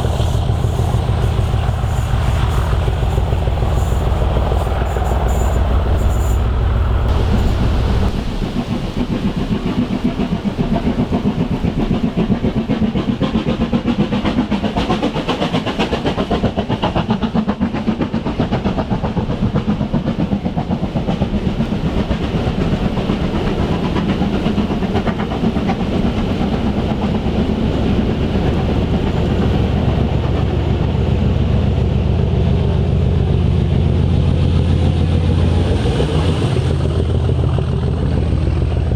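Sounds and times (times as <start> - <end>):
train wheels clattering: 0.0 - 38.9.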